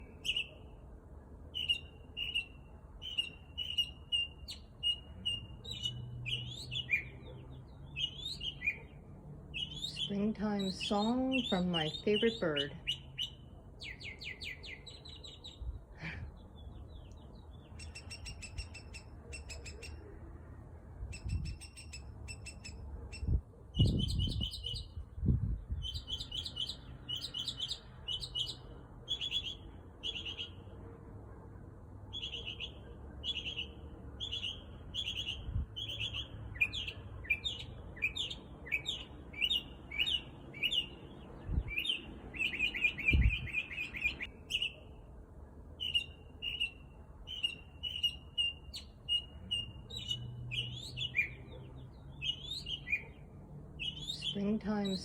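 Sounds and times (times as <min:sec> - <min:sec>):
mockingbird singing: 0:00.0 - 0:00.8, 0:01.5 - 0:20.2, 0:21.1 - 0:25.0, 0:25.6 - 0:30.6, 0:32.1 - 0:45.0, 0:45.8 - 0:55.0.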